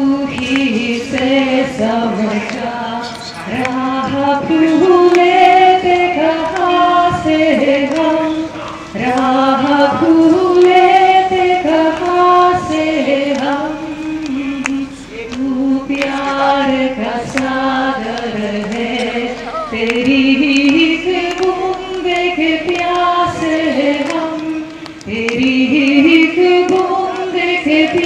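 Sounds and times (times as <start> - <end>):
voices singing devotional song: 0.0 - 28.0.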